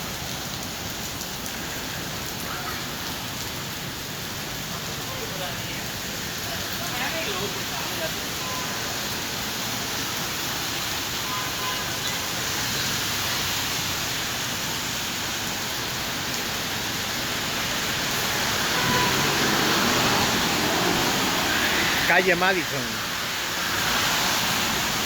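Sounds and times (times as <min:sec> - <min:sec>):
rain hissing on street: 0:00.0 - 0:25.0.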